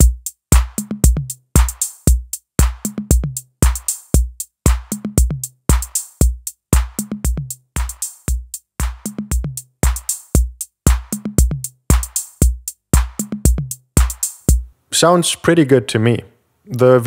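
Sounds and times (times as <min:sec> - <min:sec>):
drum machine beat: 0:00.0 - 0:14.7.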